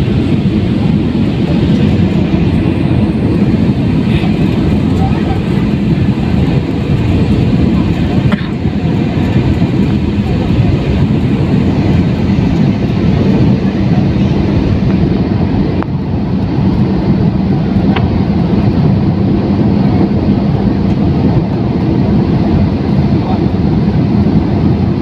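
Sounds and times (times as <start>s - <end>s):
airliner engine rumble: 0.0s - 25.0s
rushing air: 0.0s - 25.0s.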